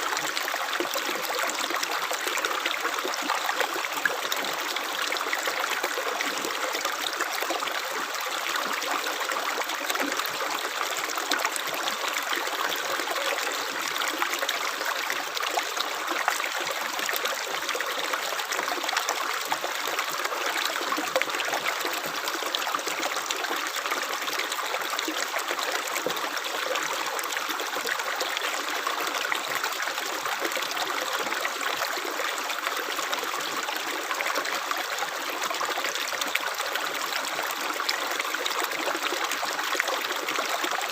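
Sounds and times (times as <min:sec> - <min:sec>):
small stream trickling: 0:00.0 - 0:40.9.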